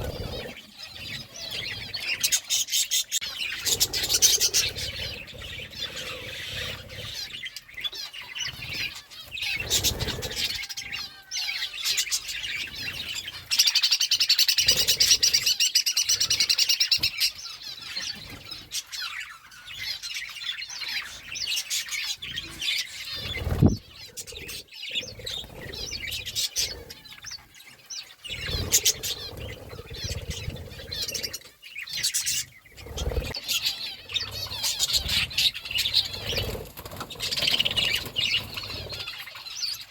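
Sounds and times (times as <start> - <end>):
parakeets chirping and chattering: 0.0 - 39.9.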